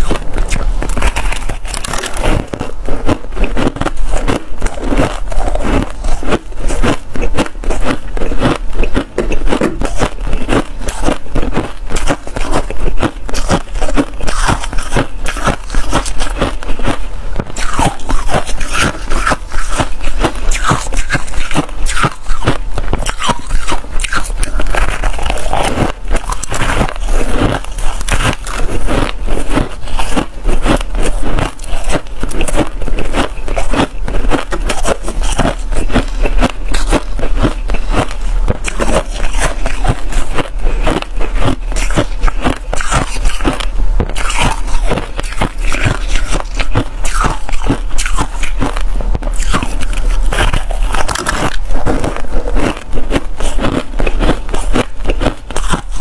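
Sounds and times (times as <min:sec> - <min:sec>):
frost being bitten and chewed: 0:00.0 - 0:56.0.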